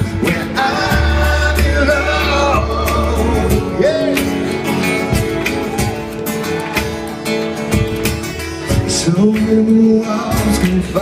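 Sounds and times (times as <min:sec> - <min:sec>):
electric bass: 0:00.0 - 0:11.0
steady drum beat: 0:00.0 - 0:11.0
strummed acoustic guitars: 0:00.0 - 0:11.0.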